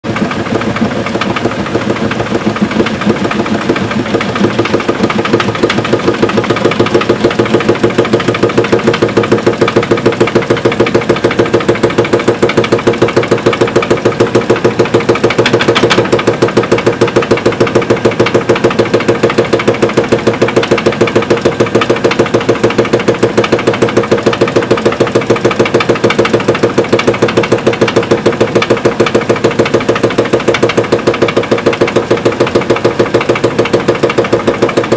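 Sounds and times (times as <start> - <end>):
fast even bearing knocking: 0.0 - 34.9
washing machine drum spinning: 0.0 - 34.9.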